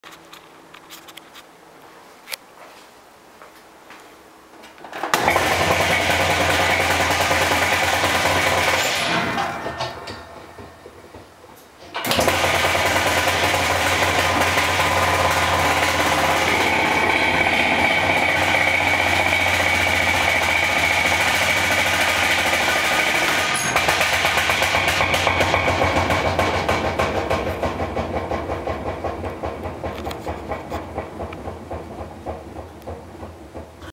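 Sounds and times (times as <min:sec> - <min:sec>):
washing machine spinning: 0:04.8 - 0:33.9.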